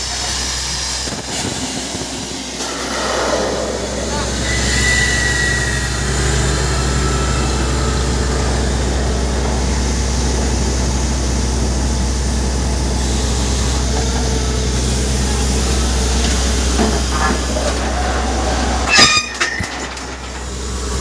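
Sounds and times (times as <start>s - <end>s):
heavy engine drone: 0.0s - 21.0s.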